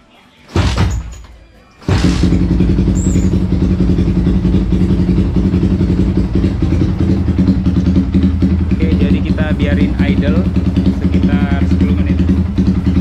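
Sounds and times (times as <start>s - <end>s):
motorcycle engine idling: 1.9s - 13.0s.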